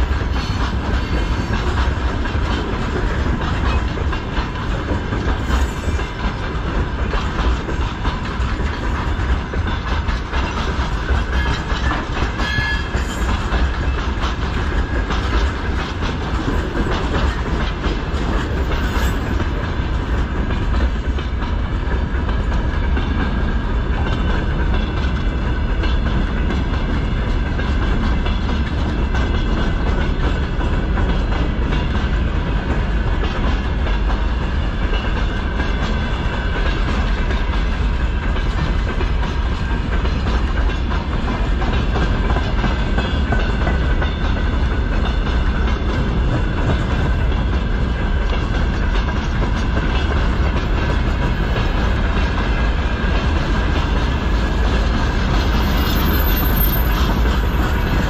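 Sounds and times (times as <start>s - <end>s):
freight train rumbling past: 0.0s - 58.0s
wheels clacking over rail joints: 0.0s - 58.0s.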